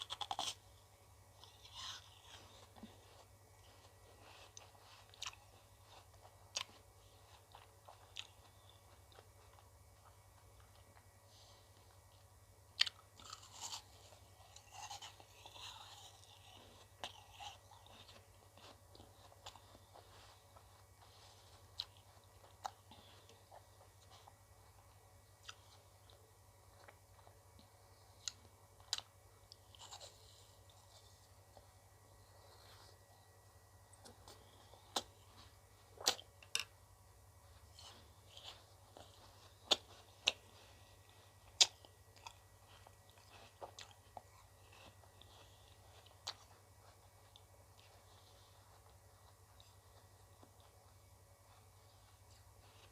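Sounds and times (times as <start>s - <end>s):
chewing ice cream: 0.0s - 36.8s, 37.5s - 52.9s
steady low hum: 0.0s - 52.9s.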